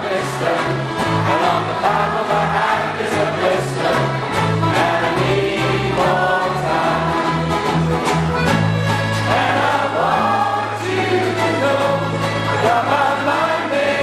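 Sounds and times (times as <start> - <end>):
group singing: 0.0 - 14.0
instrumental accompaniment: 0.0 - 14.0.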